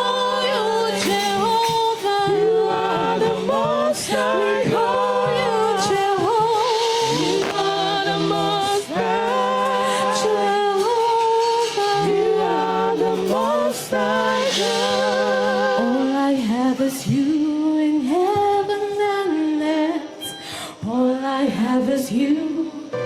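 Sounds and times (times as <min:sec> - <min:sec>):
congregation singing: 0:00.0 - 0:23.0
lead voice singing: 0:00.0 - 0:23.0.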